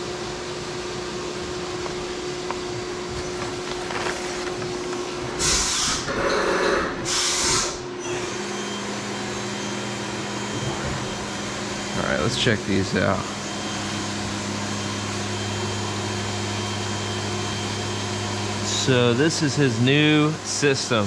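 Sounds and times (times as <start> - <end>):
machine running hum: 0.0 - 21.0.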